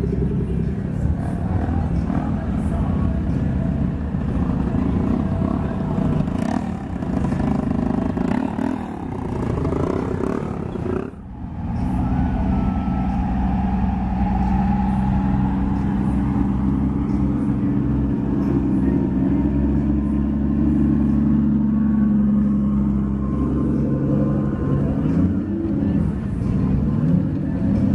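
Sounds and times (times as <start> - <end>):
car engines running at low revs: 0.0 - 27.9.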